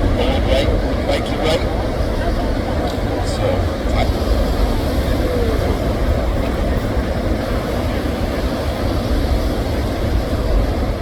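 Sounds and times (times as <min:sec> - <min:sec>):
ocean surf rumble: 0:00.0 - 0:11.0.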